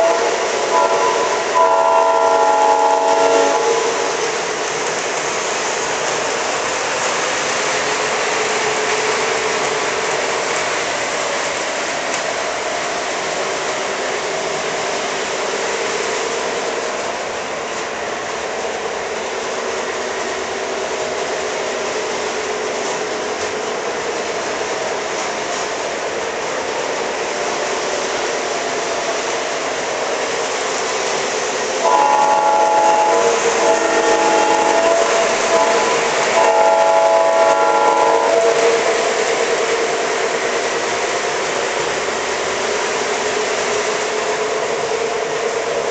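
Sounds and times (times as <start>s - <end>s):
model train wheels rolling: 0.0s - 45.9s.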